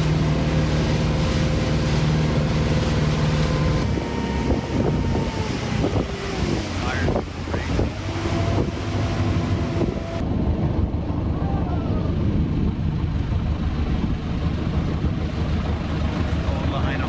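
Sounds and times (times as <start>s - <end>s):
boat motor rumbling: 0.0s - 17.0s
wind on microphone: 0.0s - 17.0s.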